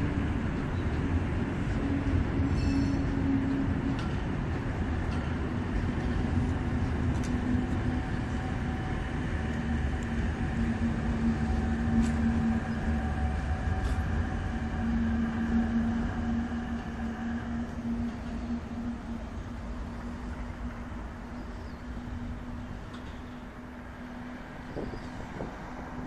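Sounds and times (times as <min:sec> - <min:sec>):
low hum: 0:00.0 - 0:26.0
train wheels rumbling on rails: 0:00.0 - 0:26.0.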